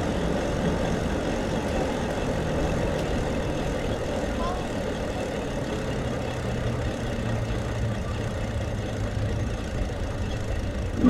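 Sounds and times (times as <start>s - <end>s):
e-bike riding rumble: 0.0s - 11.0s.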